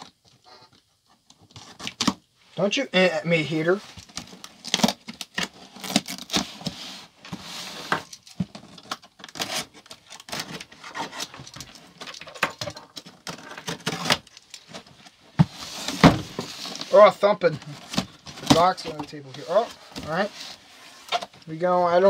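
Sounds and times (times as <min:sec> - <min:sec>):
cardboard rustling: 0:03.6 - 0:22.0.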